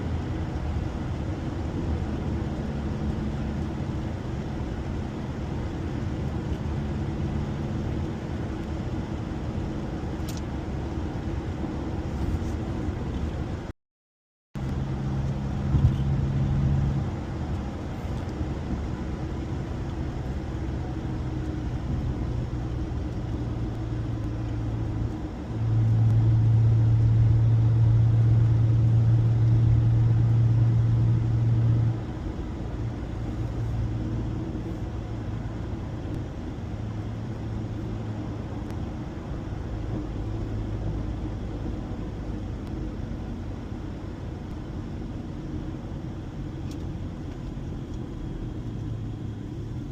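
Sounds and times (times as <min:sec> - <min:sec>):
car engine drone: 0:00.0 - 0:13.7, 0:14.6 - 0:49.9
road noise: 0:00.0 - 0:13.7, 0:14.6 - 0:49.9.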